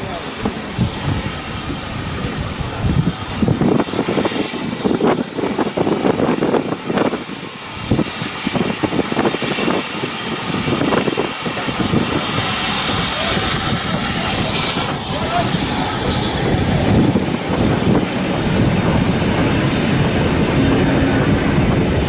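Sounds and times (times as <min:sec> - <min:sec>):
steam hissing: 0:00.0 - 0:22.0
steam locomotive exhaust beats: 0:00.0 - 0:22.0.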